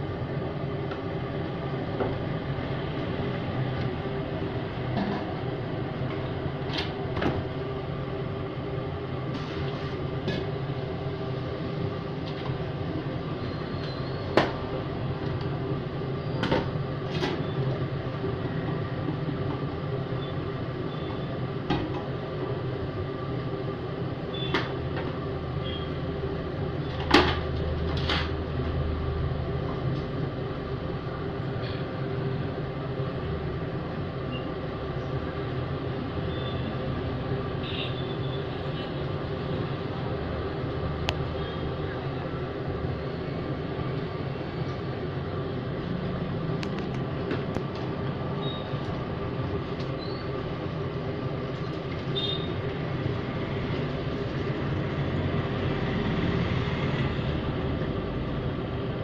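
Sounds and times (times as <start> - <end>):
steady kitchen hum: 0.0 - 59.0.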